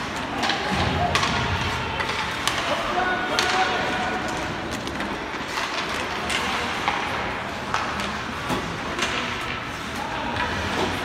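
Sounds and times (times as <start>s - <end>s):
arena noise: 0.0s - 11.0s
hockey sticks and puck clacking: 0.0s - 11.0s.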